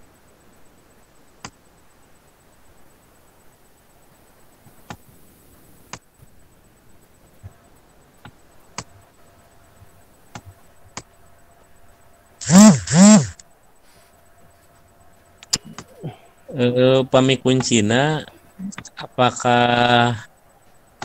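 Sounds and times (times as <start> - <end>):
low hiss: 0.0 - 21.0.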